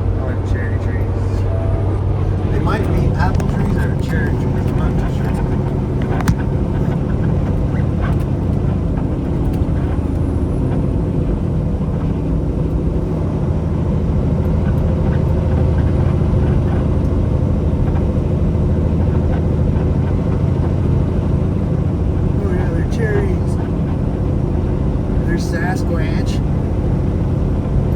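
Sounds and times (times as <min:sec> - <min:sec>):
diesel truck engine droning: 0:00.0 - 0:27.9.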